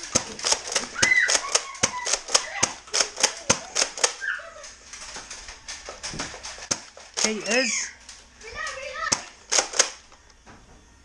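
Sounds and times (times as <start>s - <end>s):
toy blasters clicking and snapping: 0.0s - 10.3s.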